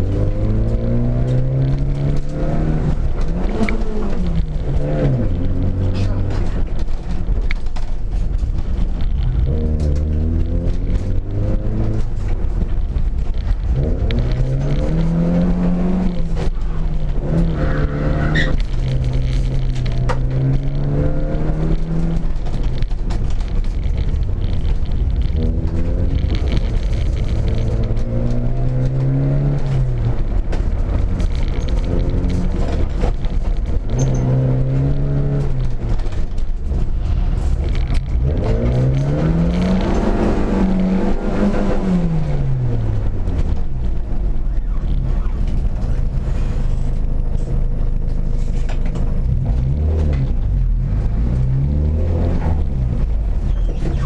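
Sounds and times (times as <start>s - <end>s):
car engine revving: 0.0s - 54.0s
road and cabin rumble: 0.0s - 54.0s.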